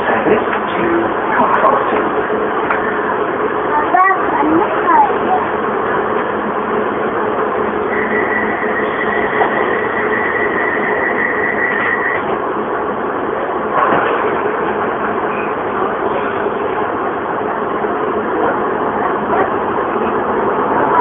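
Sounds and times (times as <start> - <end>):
high steady whine: 0.0 - 21.0
train wheels and running gear: 0.0 - 21.0.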